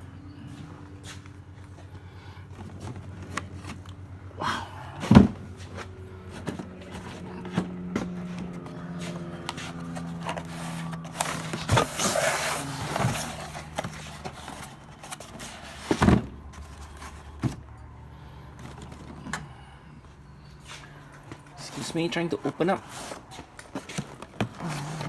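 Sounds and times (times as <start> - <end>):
steady low hum: 0.0 - 21.7.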